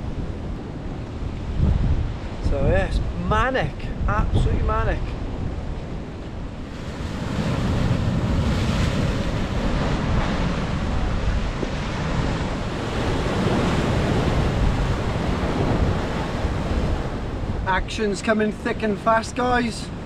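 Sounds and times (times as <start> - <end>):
wind buffeting microphone: 0.0 - 18.2
waves breaking on rocky shore: 0.0 - 20.0.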